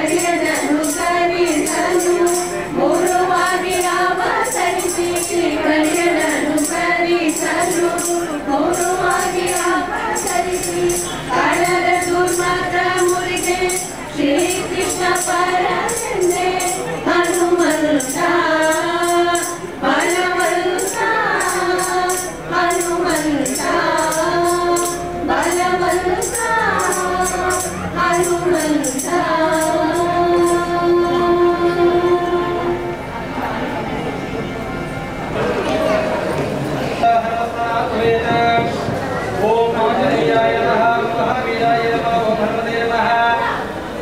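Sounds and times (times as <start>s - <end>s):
women singing devotional song: 0.0s - 34.3s, 35.8s - 44.0s
jingling percussion beat: 0.0s - 36.7s.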